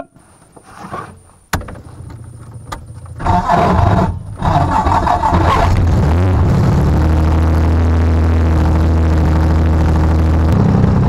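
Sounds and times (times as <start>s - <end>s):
airplane engine starting and idling: 1.6s - 11.0s.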